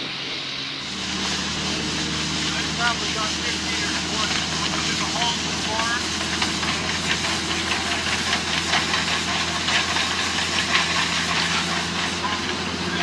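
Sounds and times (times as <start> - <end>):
engine idling: 0.0 - 13.0
hiss: 0.0 - 13.0
rapid irregular clicking: 2.4 - 13.0.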